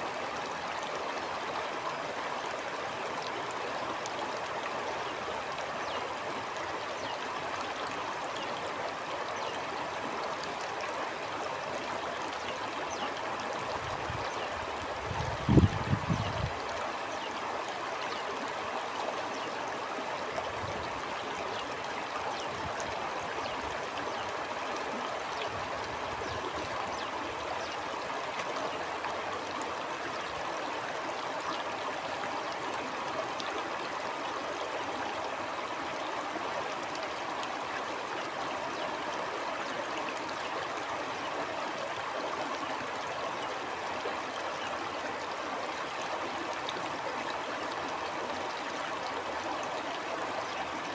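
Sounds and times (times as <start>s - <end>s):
stream flowing: 0.0s - 50.9s.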